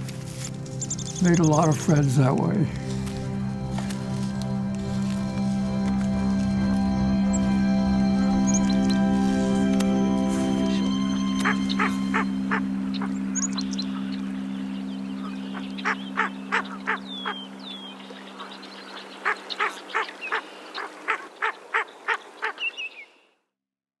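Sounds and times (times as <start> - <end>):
held music chord: 0.0 - 19.2
birds calling: 0.5 - 5.6, 6.2 - 23.3.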